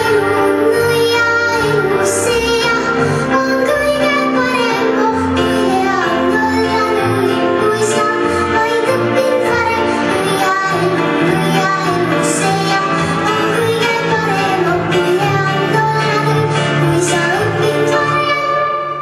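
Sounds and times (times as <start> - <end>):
high singing voice: 0.0 - 19.0
instrumental backing: 0.0 - 19.0.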